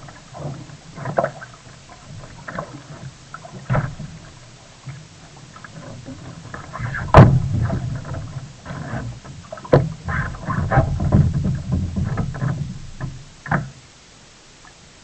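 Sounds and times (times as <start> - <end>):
paddle splashing in water: 0.0 - 13.9.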